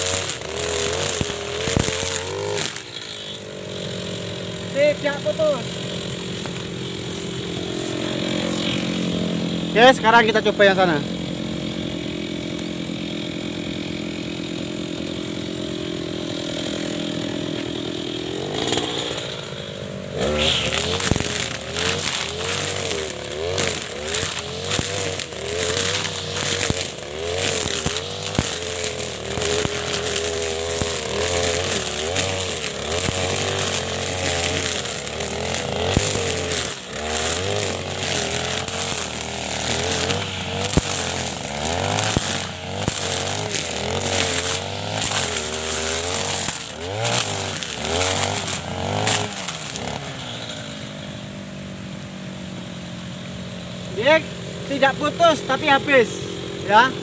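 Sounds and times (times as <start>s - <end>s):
brush cutter engine revving: 0.0s - 57.0s
trimmer line cutting weeds: 0.0s - 57.0s.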